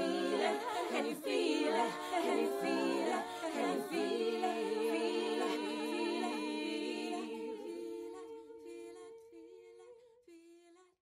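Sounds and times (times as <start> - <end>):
layered voices humming a chord: 0.0 - 9.1.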